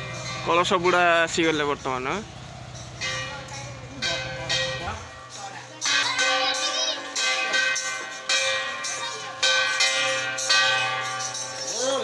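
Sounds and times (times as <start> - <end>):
large metal bell ringing: 0.0 - 12.0.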